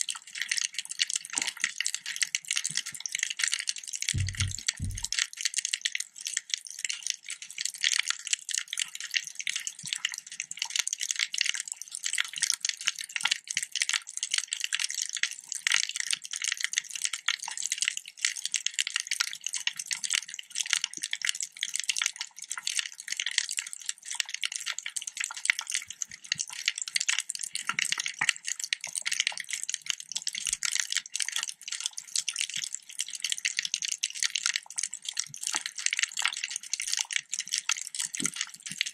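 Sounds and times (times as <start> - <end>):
crackle of tiny underwater clicks: 0.0 - 38.9.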